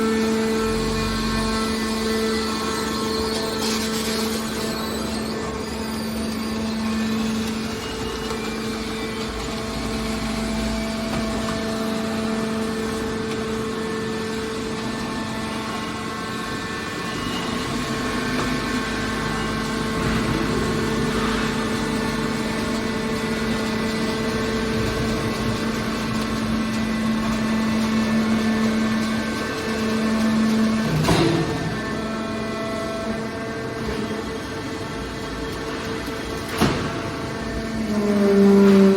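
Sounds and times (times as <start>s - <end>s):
baler machine hum: 0.0s - 38.9s.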